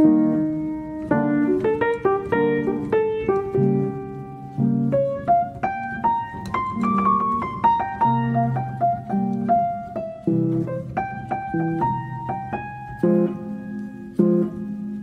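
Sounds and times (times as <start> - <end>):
piano melody over low chords: 0.0 - 15.0.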